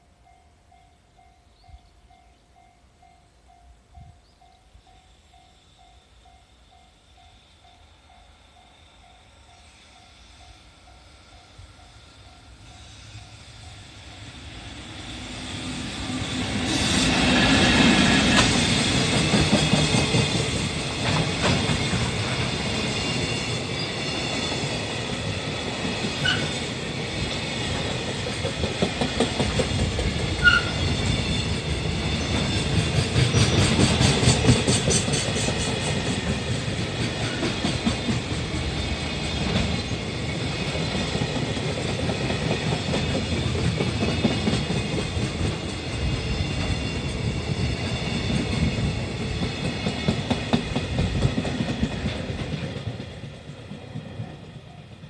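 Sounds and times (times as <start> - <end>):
freight train rumble: 0.0 - 55.0.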